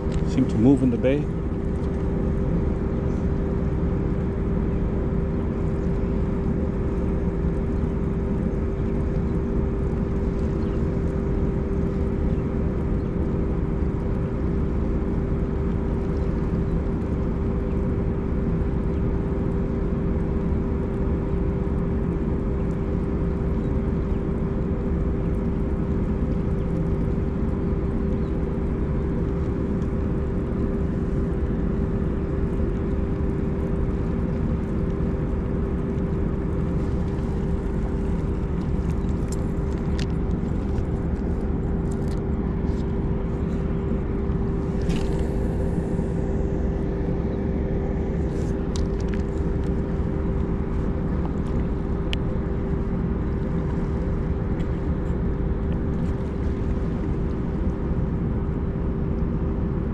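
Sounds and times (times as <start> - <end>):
mechanical humming drone: 0.0 - 59.9.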